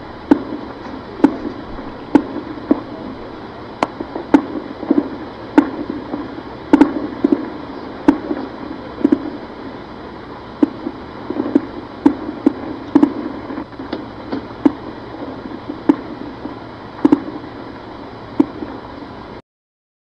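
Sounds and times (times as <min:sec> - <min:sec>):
steady background hiss: 0:00.0 - 0:19.4
distant gunshots: 0:00.3 - 0:03.1, 0:03.8 - 0:09.6, 0:10.6 - 0:18.8.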